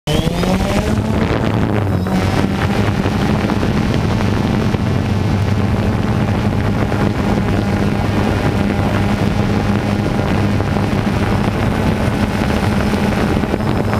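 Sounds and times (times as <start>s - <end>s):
drone propellers buzzing: 0.1s - 13.9s.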